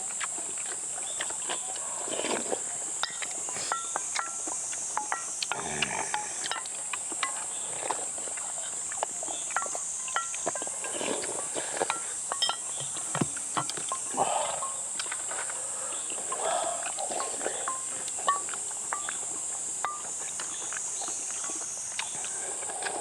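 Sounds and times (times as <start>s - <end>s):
insects droning: 0.0s - 23.0s
soft eating noises: 0.0s - 23.0s
utensils clinking against bowls: 2.9s - 22.3s.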